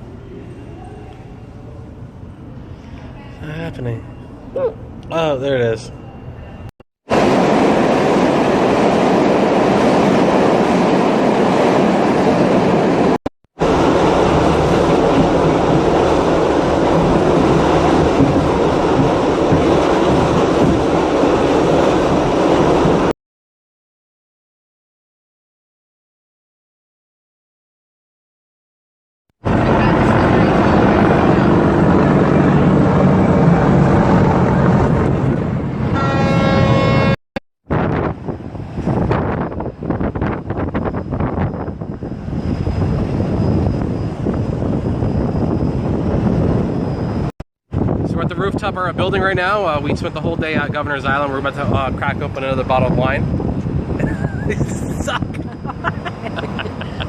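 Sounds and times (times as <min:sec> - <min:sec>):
subway train rumble: 0:00.0 - 0:23.1, 0:29.4 - 0:57.0.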